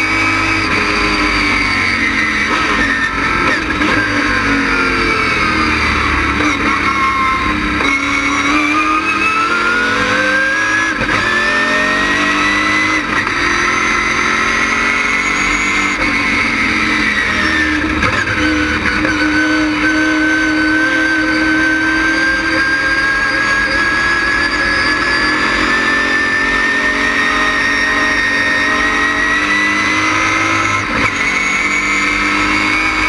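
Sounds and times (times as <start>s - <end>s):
race car engine running hard: 0.0s - 33.0s.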